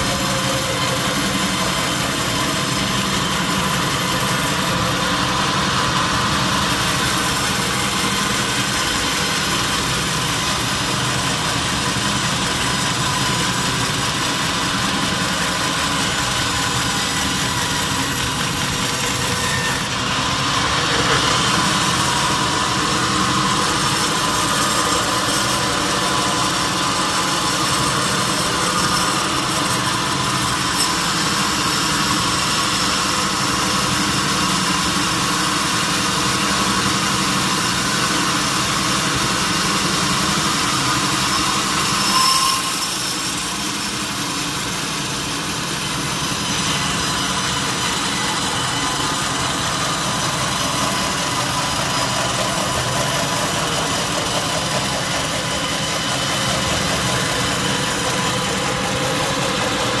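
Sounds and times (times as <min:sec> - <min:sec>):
high-pitched machine squeal: 0:00.0 - 0:05.0, 0:06.6 - 0:31.7, 0:40.5 - 1:00.0
sawmill machinery humming: 0:00.0 - 1:00.0.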